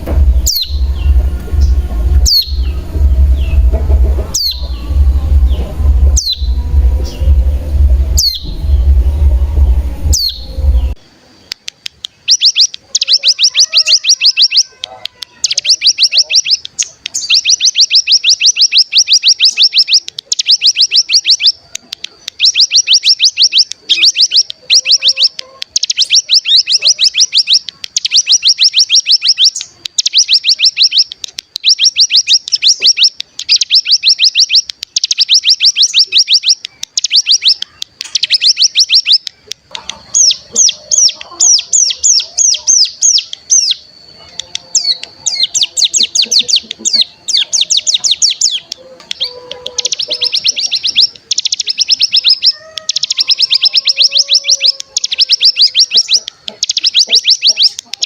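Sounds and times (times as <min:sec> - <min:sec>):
bird singing rapid trills: 0:00.0 - 0:09.1, 0:09.9 - 0:11.0, 0:12.0 - 0:58.0.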